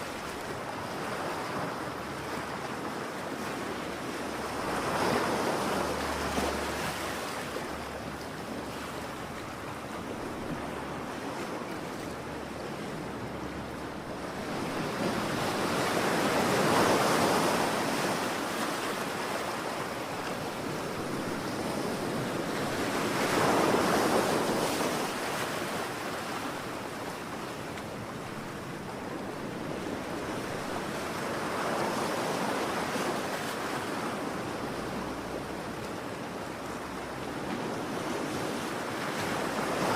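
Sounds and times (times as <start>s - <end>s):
constant wash of water: 0.0s - 39.9s
waves breaking: 0.0s - 39.9s.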